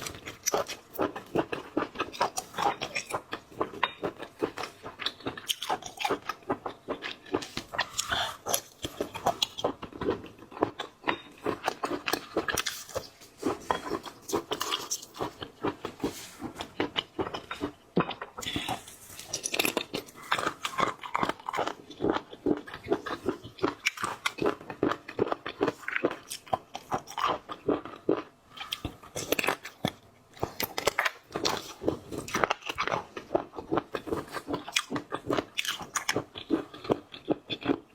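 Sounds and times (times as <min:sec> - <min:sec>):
chewing and crunching food: 0:00.0 - 0:37.9.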